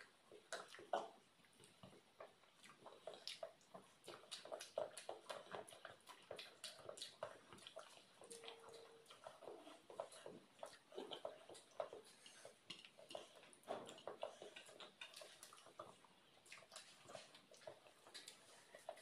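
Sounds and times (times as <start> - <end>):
wet chewing and mouth smacks: 0.0 - 19.0.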